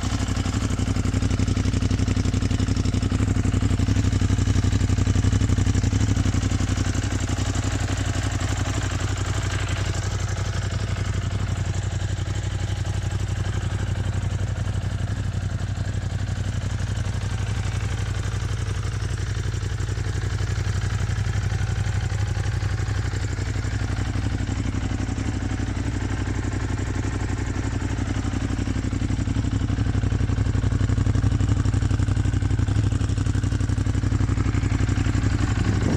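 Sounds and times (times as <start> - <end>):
motorcycle engine idling: 0.0 - 35.9.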